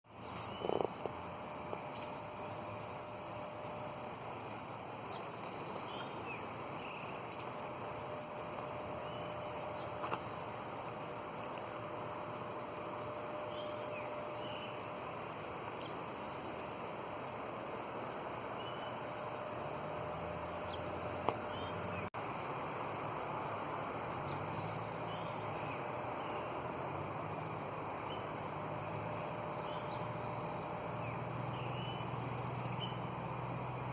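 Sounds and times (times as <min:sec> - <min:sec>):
crickets trilling: 0:00.1 - 0:33.9.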